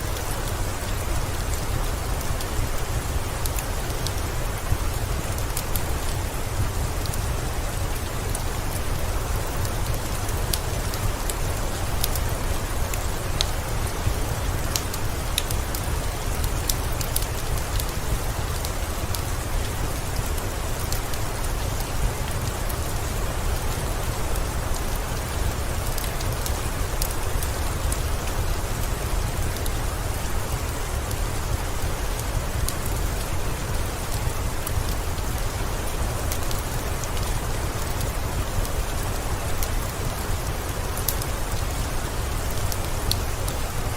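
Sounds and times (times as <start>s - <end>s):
steady rain: 0.0s - 43.9s
wood fire crackling: 0.0s - 43.9s.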